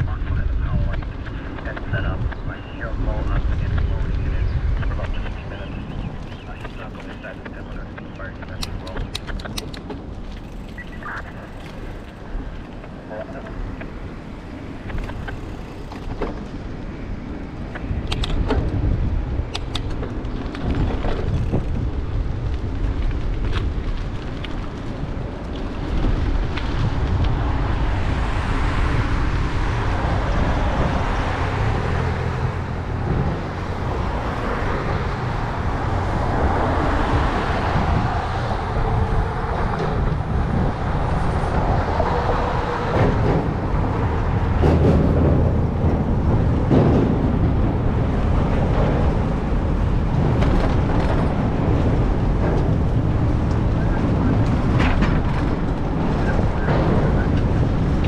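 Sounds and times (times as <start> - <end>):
road traffic rumble: 0.0 - 58.0
vehicles passing: 0.0 - 58.0.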